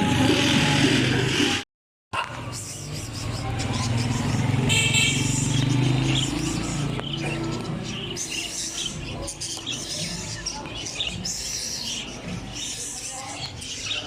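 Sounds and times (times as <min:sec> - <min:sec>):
small birds chirping: 0:02.2 - 0:14.0.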